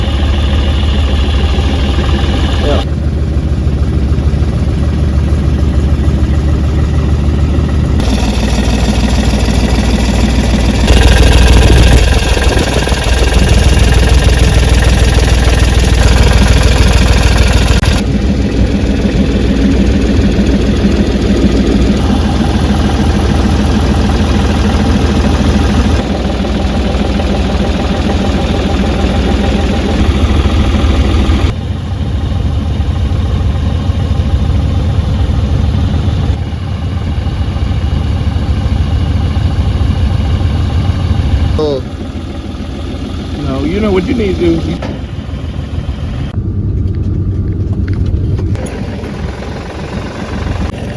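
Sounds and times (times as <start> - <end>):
trencher engine running: 0.0 - 50.9.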